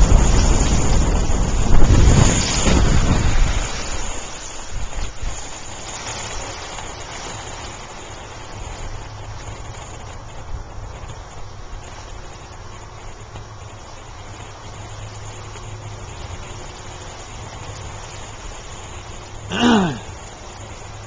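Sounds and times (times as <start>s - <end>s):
wind buffeting microphone: 0.0s - 19.2s.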